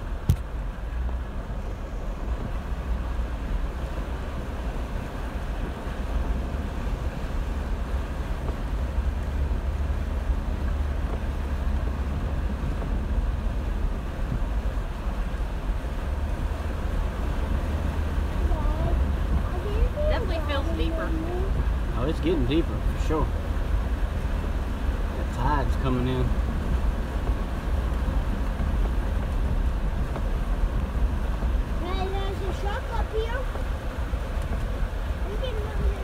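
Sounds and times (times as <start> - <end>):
vehicle low rumble: 0.0 - 36.0
water rushing and splashing: 0.0 - 36.0.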